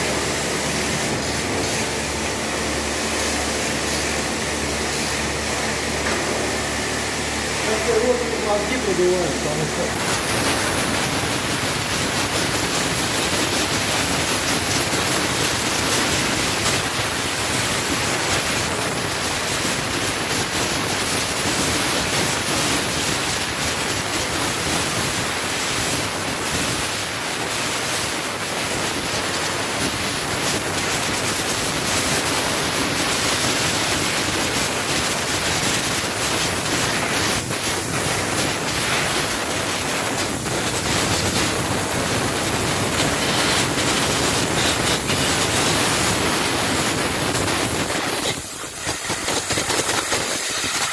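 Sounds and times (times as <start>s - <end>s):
pressure washer spraying water: 0.0s - 50.9s.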